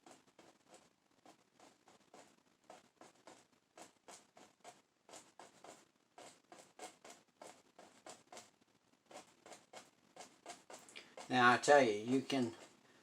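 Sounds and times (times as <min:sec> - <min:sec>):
paint brush dabbing canvas: 0:00.0 - 0:13.0.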